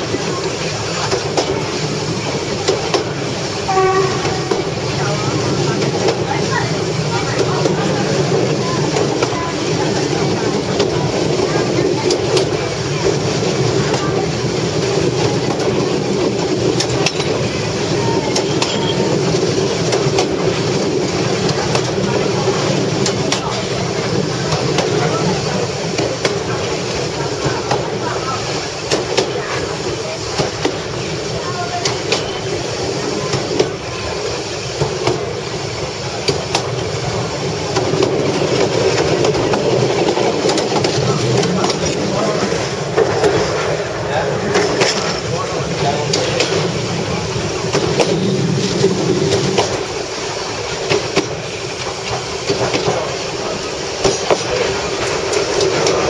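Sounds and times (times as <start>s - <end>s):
railcar rumbling on track: 0.0s - 56.0s
wheels clacking on rail joints: 0.0s - 56.0s.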